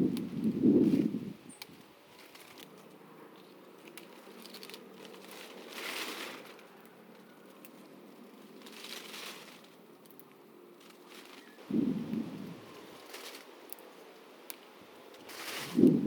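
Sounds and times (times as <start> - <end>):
faint rustling and crinkling: 0.0 - 16.0.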